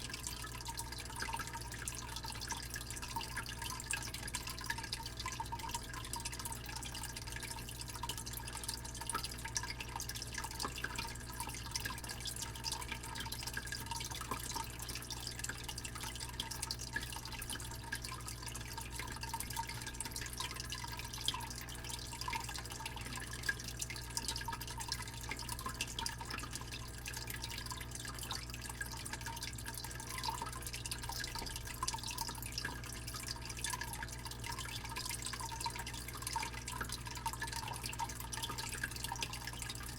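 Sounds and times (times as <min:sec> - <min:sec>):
fish tank pump humming: 0:00.0 - 0:39.9
water splashes and bubbles: 0:00.0 - 0:39.9
water trickling and dripping: 0:00.0 - 0:39.9.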